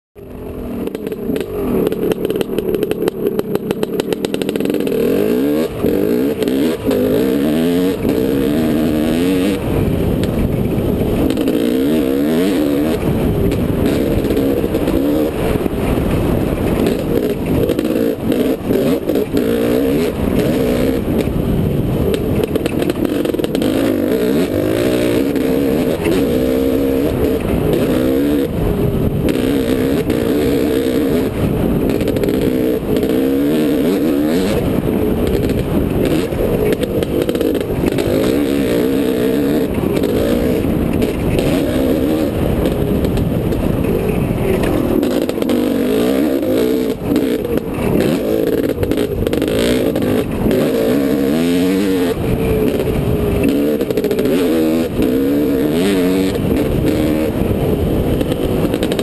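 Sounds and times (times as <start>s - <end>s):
dirt bike engine revving: 0.2s - 59.0s.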